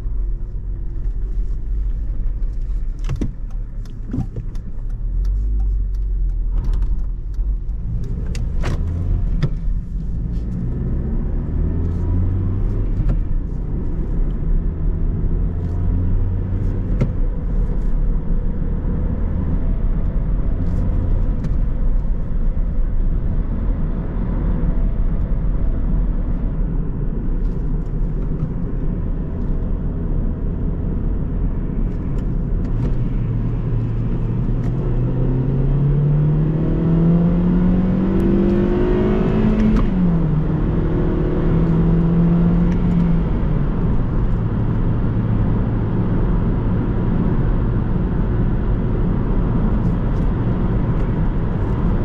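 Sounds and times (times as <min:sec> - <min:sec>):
car engine running: 0:00.0 - 0:52.0
road noise: 0:00.0 - 0:52.0.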